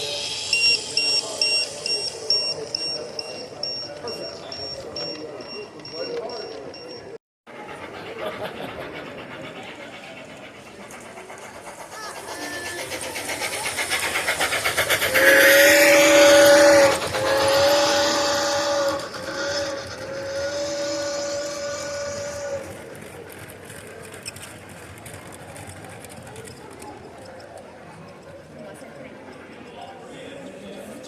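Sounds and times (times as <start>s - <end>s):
toy train wheels clicking: 0.0s - 30.0s.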